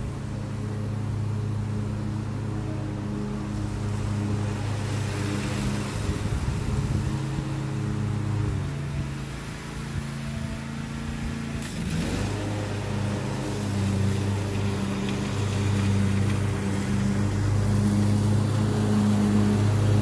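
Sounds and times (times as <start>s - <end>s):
riding mower engine running: 0.0s - 20.0s.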